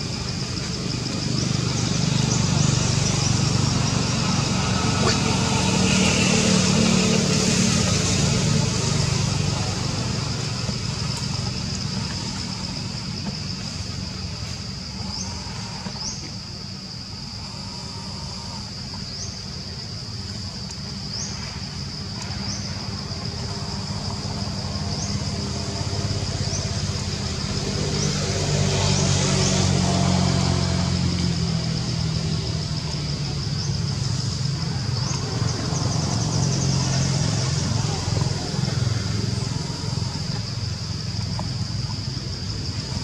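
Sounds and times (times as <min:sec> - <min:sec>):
high insect whine: 0:00.0 - 0:43.0
insect chirps: 0:00.0 - 0:43.0
vehicle engine humming: 0:00.0 - 0:43.0.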